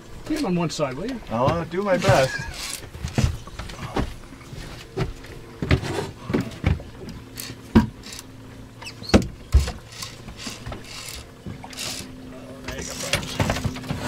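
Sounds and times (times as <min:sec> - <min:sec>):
knocks and bumps on boat: 0:01.0 - 0:08.2, 0:08.8 - 0:11.9, 0:12.5 - 0:14.0.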